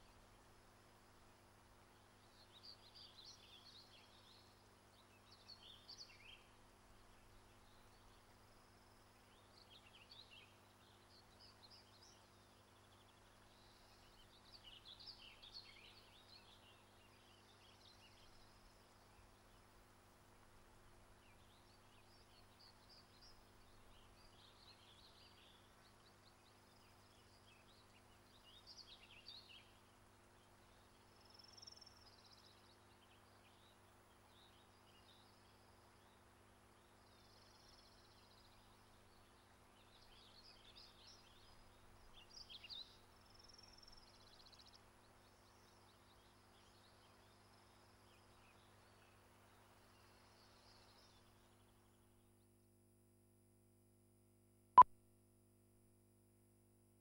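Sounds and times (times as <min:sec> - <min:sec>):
faint birdsong chirps and trills: 0:00.0 - 0:54.4
faint low hum: 0:00.0 - 0:54.5.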